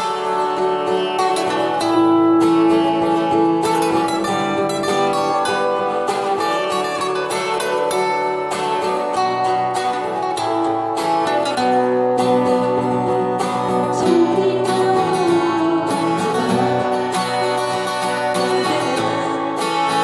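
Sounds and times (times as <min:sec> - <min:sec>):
fingerpicked acoustic guitar: 0:00.0 - 0:20.0.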